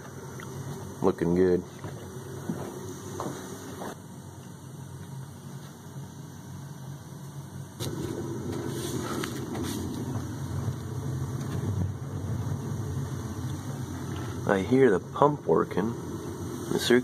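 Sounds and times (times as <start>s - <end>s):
boiler pump mechanical hum: 0.0s - 17.0s.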